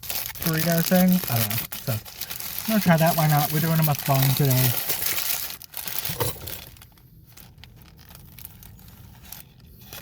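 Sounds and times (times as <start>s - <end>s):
paper wrapper crinkling and tearing: 0.0s - 10.0s.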